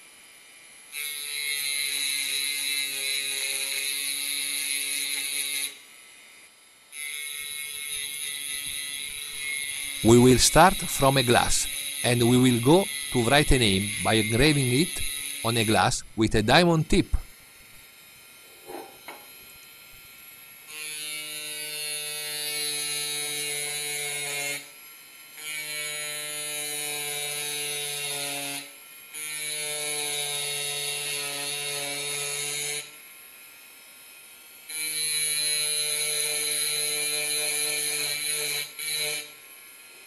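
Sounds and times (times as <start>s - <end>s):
drill grinding into glass: 0.8s - 6.2s, 6.9s - 17.8s, 18.4s - 33.0s, 34.6s - 40.0s.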